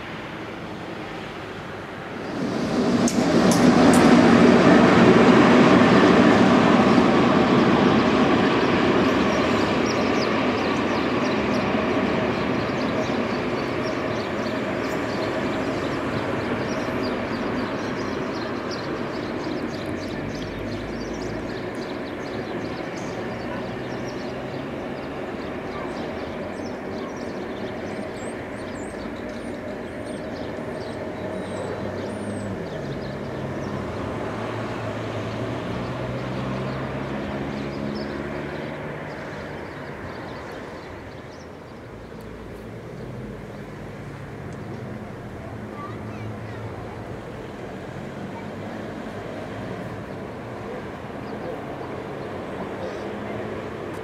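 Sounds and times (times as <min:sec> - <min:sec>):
train wheels rumbling on rail: 0:00.5 - 0:54.0.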